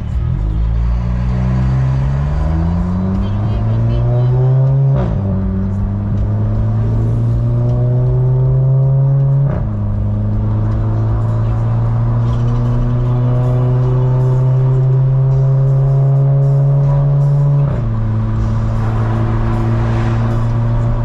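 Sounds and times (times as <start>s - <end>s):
motorcycle engine accelerating: 1.2s - 21.0s.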